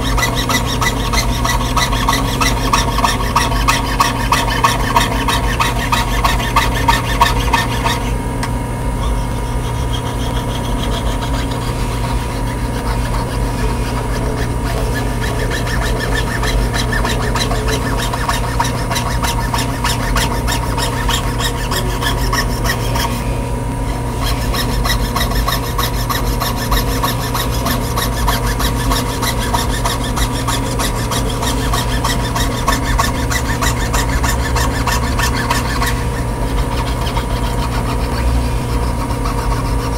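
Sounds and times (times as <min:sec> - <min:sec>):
saw blade rasping on metal: 0:00.0 - 0:08.2, 0:09.0 - 0:39.9.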